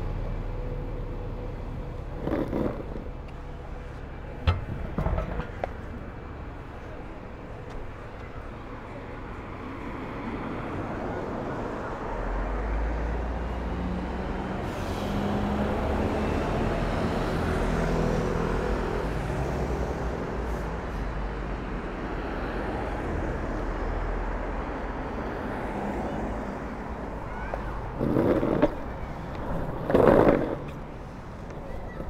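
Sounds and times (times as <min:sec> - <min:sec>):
motor vehicle hum: 0:00.0 - 0:21.1, 0:23.1 - 0:32.0
road traffic noise: 0:00.0 - 0:32.0
longboard wheels rolling on asphalt: 0:01.1 - 0:20.3, 0:22.9 - 0:32.0.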